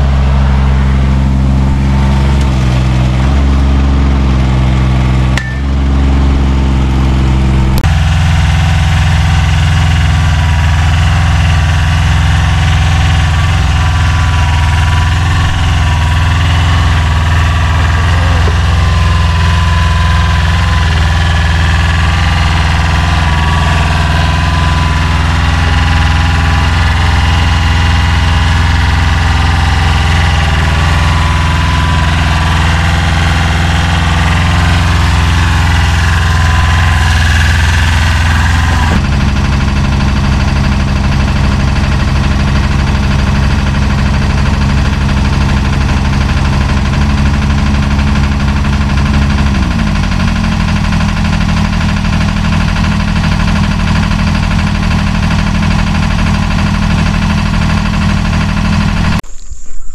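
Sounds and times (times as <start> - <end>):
skid-steer loader engine: 0.0 - 59.2
mini excavator engine: 0.0 - 59.4.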